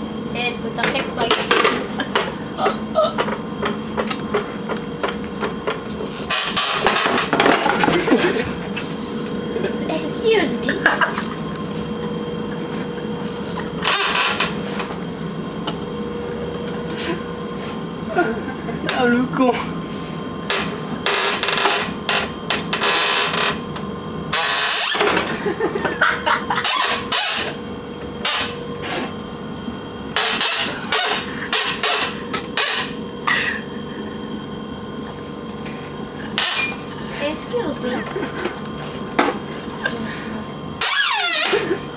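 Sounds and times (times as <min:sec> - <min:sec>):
train carriage rumbling hum: 0:00.0 - 0:41.9.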